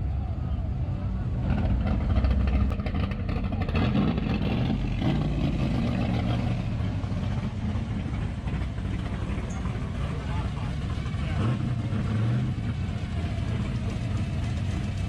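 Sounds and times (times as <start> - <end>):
car engine running: 1.1 - 15.0.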